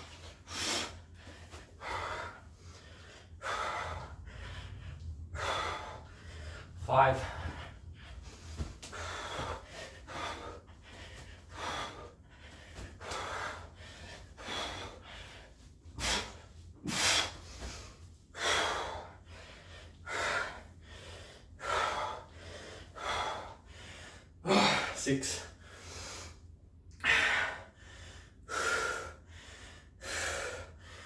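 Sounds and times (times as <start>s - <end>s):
man breathing hard: 0.0s - 31.0s.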